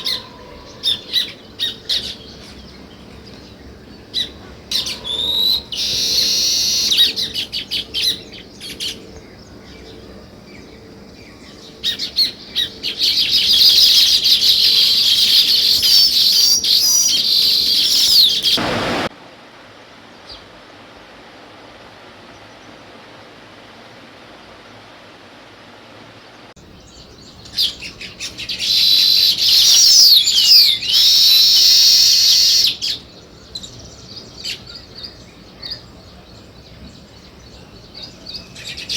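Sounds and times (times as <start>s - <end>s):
sparrows chirping: 0.0s - 19.1s, 26.6s - 38.9s.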